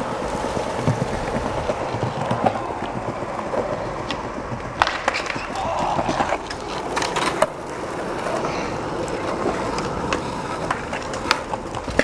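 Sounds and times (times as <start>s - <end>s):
skateboard clack: 0.0s - 12.0s
skateboard wheels rolling on concrete: 0.0s - 12.0s.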